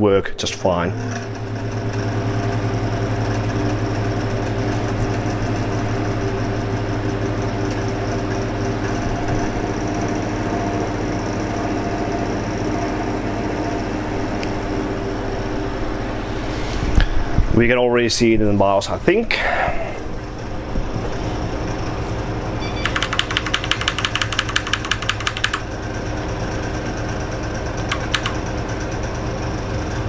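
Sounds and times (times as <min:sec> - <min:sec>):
computer cooling fans and pump humming: 0:00.0 - 0:30.0.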